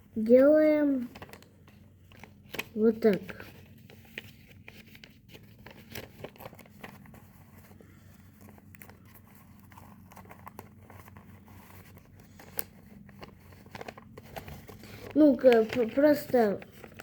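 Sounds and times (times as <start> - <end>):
paper being folded and creased: 0.0 - 17.0
paper crackle: 0.8 - 17.0.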